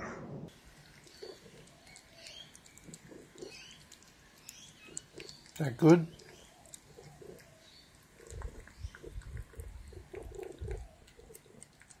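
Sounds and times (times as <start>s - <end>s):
cat chewing wet food: 0.5s - 12.0s.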